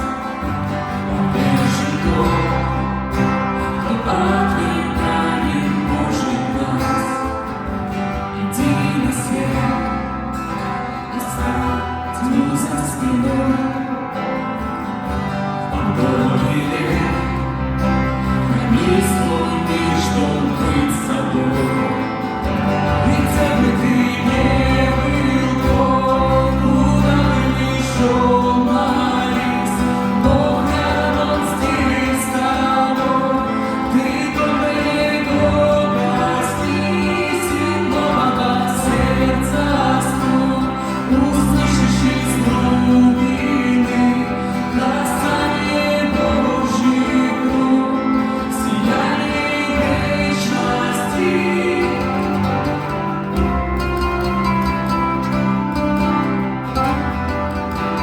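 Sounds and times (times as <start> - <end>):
live band music: 0.0 - 58.0
person singing: 0.0 - 58.0.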